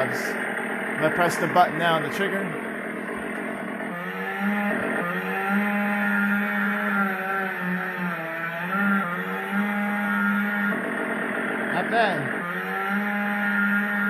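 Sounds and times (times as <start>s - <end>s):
chainsaw revving from toy speaker: 0.0s - 14.0s.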